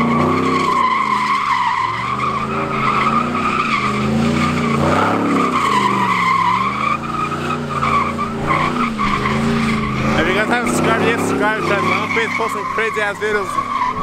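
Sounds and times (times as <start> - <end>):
car engine revving: 0.0 - 14.0
tyres squealing: 0.0 - 14.0.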